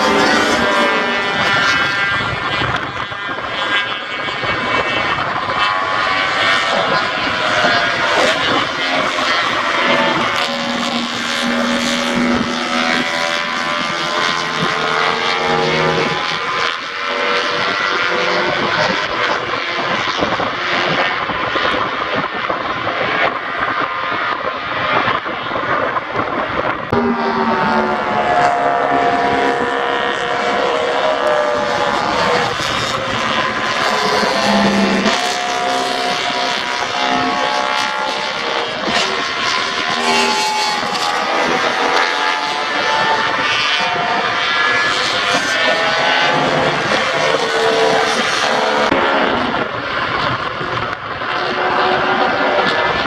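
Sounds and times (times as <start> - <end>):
racing motorcycle engines: 0.0 - 53.0.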